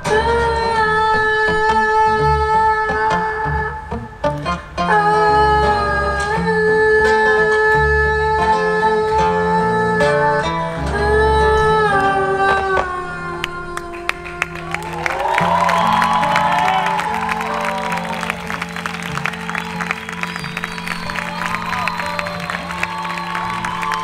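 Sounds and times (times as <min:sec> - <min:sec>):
bass: 0:00.0 - 0:24.0
guitar: 0:00.0 - 0:24.0
live band playing: 0:00.0 - 0:24.0.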